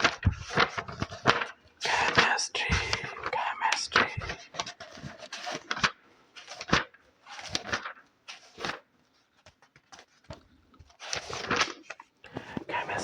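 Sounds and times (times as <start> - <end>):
book pages being handled: 0.0 - 13.0.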